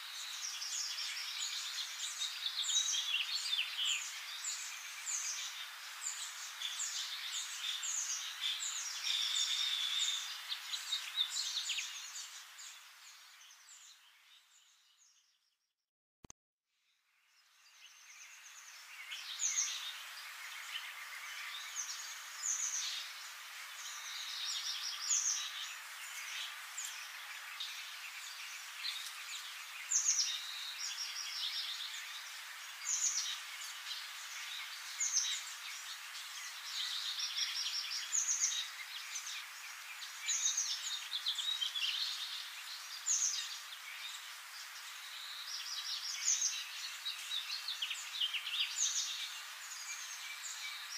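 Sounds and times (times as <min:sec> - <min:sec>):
steady hiss: 0:00.0 - 0:14.6, 0:17.4 - 0:50.9
small birds chirping and trilling: 0:00.0 - 0:15.6, 0:17.2 - 0:50.9.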